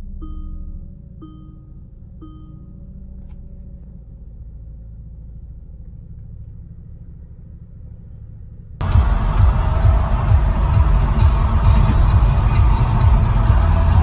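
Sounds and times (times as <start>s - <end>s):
car engine rumble from cabin: 0.0s - 14.0s
road noise: 0.0s - 14.0s.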